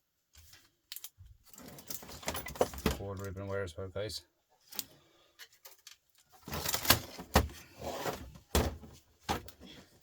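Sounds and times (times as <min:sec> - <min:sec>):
plastic and metal parts clattering: 0:00.4 - 0:03.5, 0:04.6 - 0:10.0.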